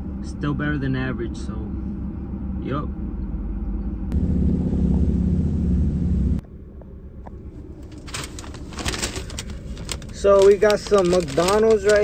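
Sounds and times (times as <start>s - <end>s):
cabin hum: 0.0s - 12.0s
car engine rumble: 0.0s - 12.0s
road noise: 0.0s - 12.0s.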